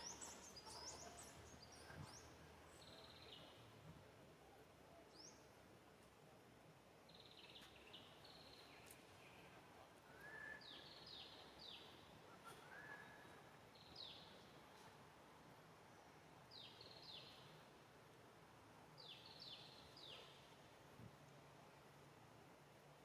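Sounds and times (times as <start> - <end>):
low hiss: 0.0 - 23.0.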